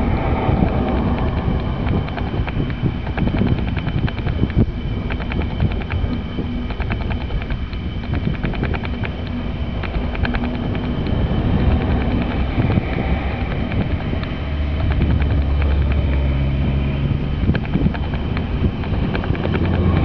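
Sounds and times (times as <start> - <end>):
low steady drone: 0.0 - 20.0.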